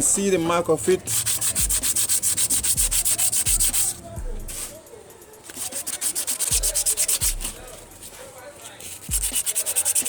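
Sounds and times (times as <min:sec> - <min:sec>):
hand sanding on abrasive paper: 0:00.0 - 0:04.8, 0:05.4 - 0:10.0.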